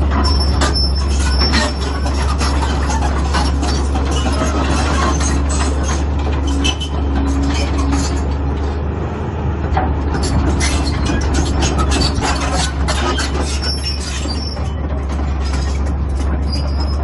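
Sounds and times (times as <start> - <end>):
steel tracks clanking and squealing: 0.0 - 8.8, 9.8 - 17.0
excavator diesel engine running: 0.0 - 17.0.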